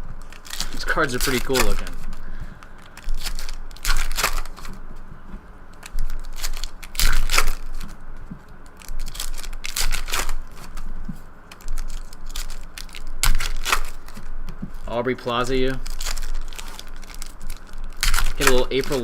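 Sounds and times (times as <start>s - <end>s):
card packs crinkling and tearing: 0.0s - 4.8s, 5.7s - 19.0s.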